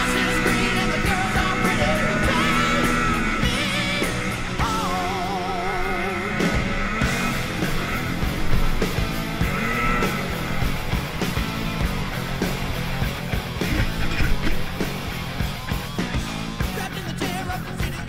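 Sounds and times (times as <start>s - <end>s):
rock music with singing: 0.0s - 18.0s
steady drum beat: 0.0s - 18.0s.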